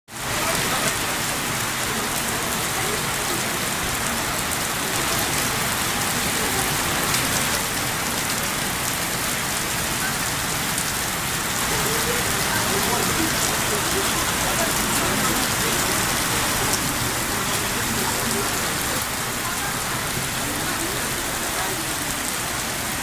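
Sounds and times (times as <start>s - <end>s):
rain pattering: 0.1s - 23.0s.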